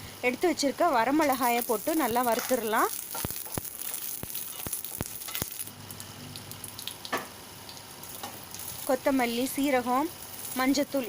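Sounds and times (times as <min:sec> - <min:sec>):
chillies sizzling in oil: 0:00.1 - 0:11.0
sharp pops of frying: 0:01.1 - 0:11.0.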